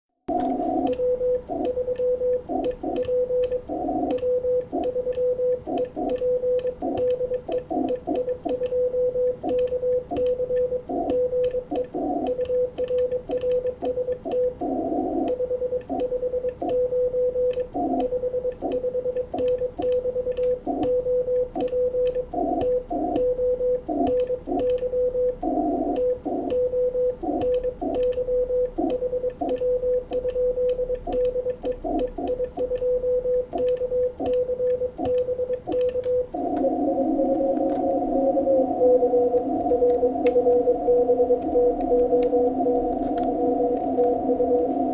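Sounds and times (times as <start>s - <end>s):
morse code tone: 0.3s - 19.2s, 19.8s - 44.9s.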